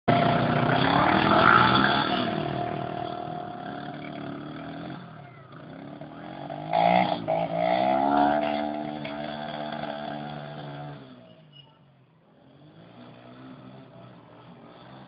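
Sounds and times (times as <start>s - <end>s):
quad bike engine revving: 0.1s - 11.3s, 12.3s - 15.0s.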